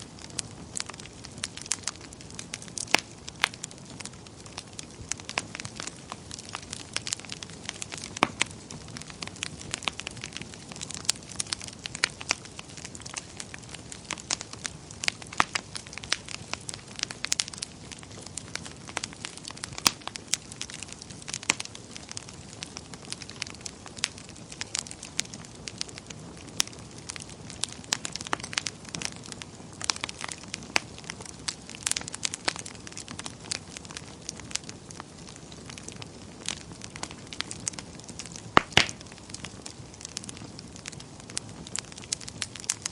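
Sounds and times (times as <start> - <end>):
steady low hiss: 0.0 - 42.9
wood fire crackling and popping: 0.0 - 42.9.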